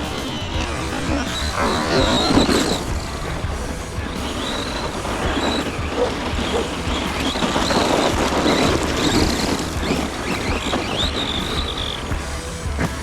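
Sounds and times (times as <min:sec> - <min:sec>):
drivetrain and tyre noise: 0:00.0 - 0:13.0
electric motor whining: 0:00.0 - 0:13.0.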